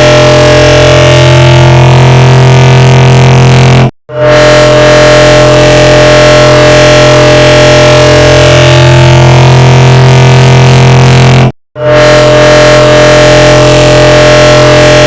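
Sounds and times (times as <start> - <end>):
loud steady voice drone: 0.0 - 15.0.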